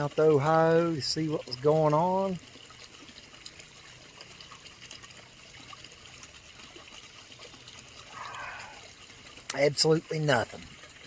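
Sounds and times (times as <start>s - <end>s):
faint river water trickling: 0.0s - 11.0s.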